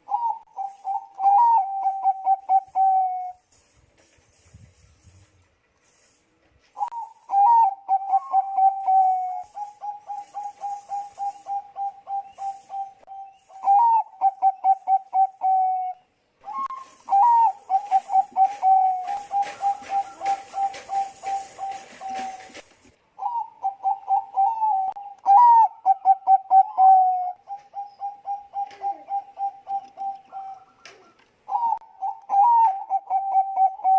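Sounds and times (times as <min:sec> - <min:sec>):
dove cooing: 0:00.0 - 0:03.4, 0:06.8 - 0:33.9.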